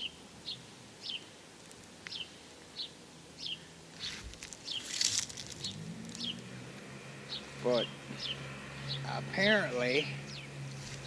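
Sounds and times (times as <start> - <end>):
bird chirping: 0.0 - 1.4, 2.0 - 6.6, 7.2 - 11.0.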